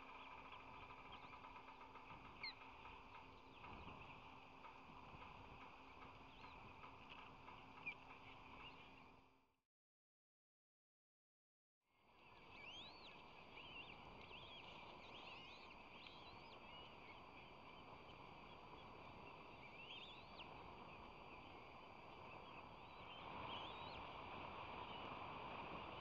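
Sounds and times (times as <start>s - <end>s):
nestlings peeping: 0.0s - 9.0s, 12.2s - 26.0s.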